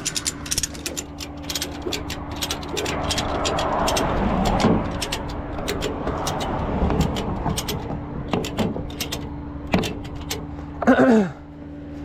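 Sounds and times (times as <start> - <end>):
ratchet clicking: 0.0 - 10.5
truck engine humming: 0.0 - 12.0.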